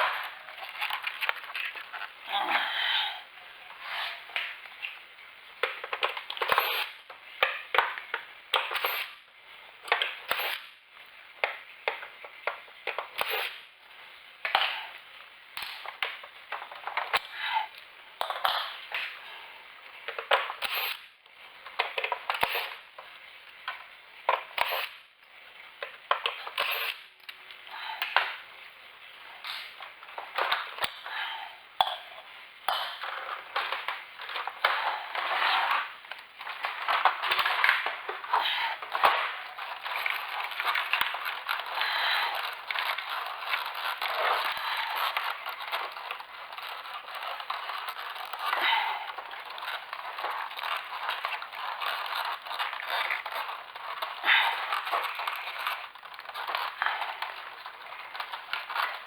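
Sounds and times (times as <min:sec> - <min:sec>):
crackling and scraping handling noise: 0:00.0 - 0:59.0.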